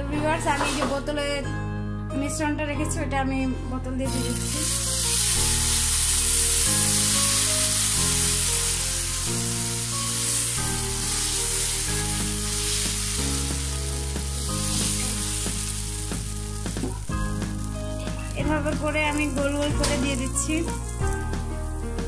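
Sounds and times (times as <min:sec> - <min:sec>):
background music with low notes: 0:00.0 - 0:22.0
batter sizzling in a pan: 0:04.1 - 0:22.0.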